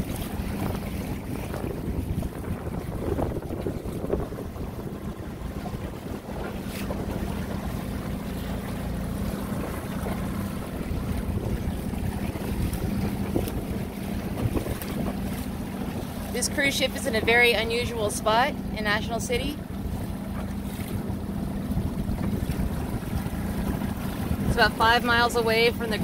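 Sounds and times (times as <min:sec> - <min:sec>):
wind buffeting microphone: 0:00.0 - 0:18.8, 0:19.4 - 0:26.0
motorboat engine hum: 0:00.0 - 0:26.0
water splashing against hull: 0:00.0 - 0:26.0.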